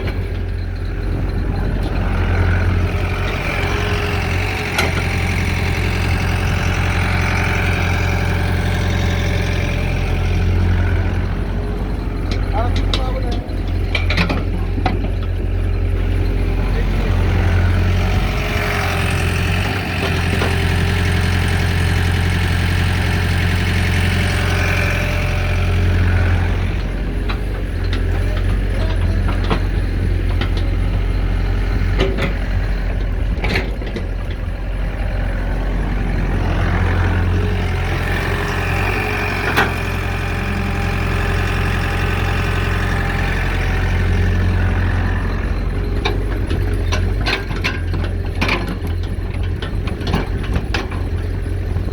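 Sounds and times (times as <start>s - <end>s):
excavator diesel engine running: 0.0s - 51.9s
hydraulic whine: 0.0s - 51.9s
knocks and clanks: 0.0s - 51.9s.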